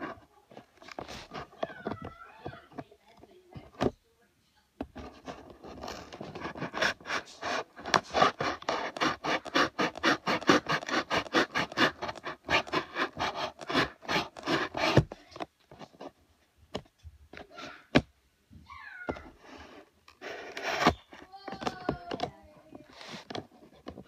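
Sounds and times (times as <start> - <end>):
rapid scratching and rubbing: 0.0 - 3.9, 4.8 - 16.3, 19.3 - 24.0.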